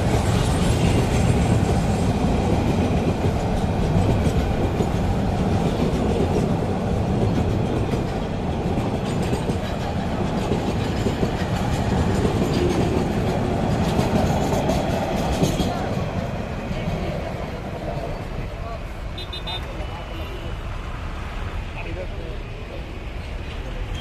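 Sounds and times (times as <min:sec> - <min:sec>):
freight train wheels rumbling on track: 0:00.0 - 0:24.0.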